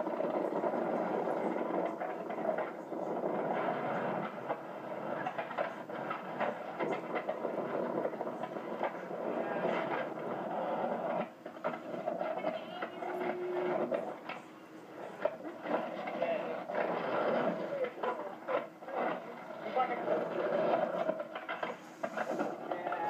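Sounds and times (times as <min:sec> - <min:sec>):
skateboard clicks and clacks: 0:00.0 - 0:23.0
skateboard wheels rolling on pavement: 0:00.0 - 0:23.0.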